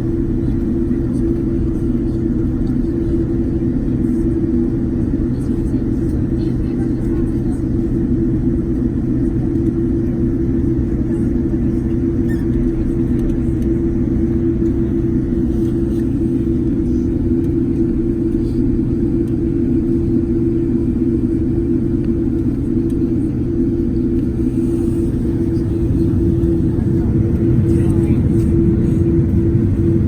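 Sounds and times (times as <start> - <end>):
airliner rumble and hum: 0.0 - 30.0.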